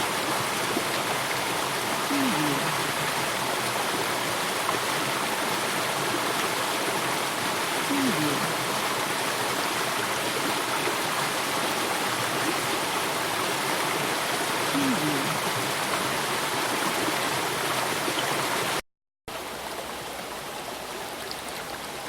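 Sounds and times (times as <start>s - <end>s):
brook water flowing over rocks: 0.0s - 22.0s.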